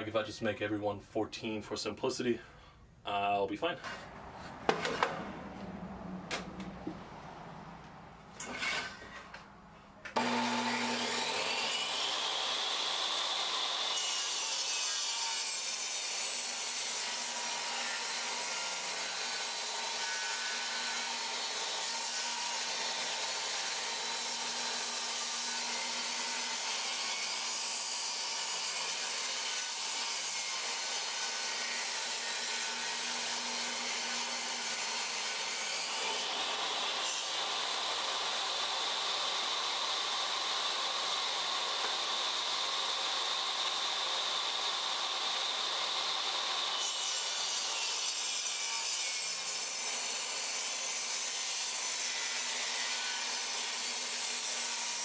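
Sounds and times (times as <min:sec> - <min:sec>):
table saw cutting wood: 0:03.8 - 0:05.7, 0:08.3 - 0:09.4, 0:10.1 - 0:55.0.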